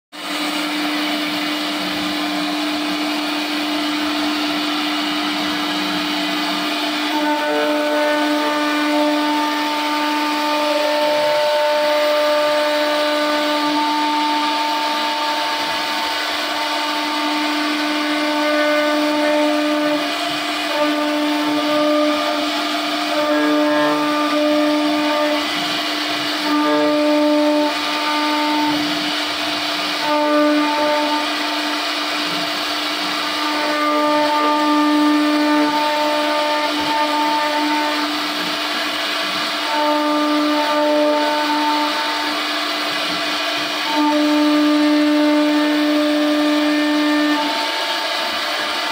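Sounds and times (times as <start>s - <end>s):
router spindle whine: 0.2s - 48.9s.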